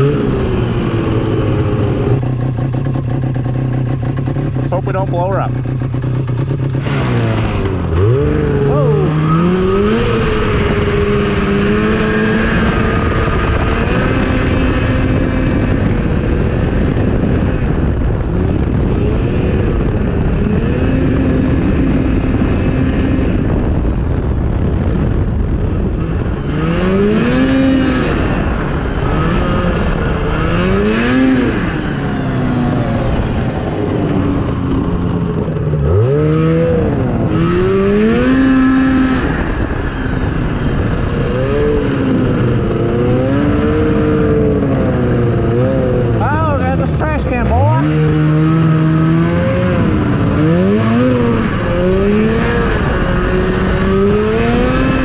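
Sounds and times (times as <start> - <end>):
snowmobile engine revving: 0.0 - 17.6, 26.0 - 55.0
steady rushing noise: 0.0 - 55.0.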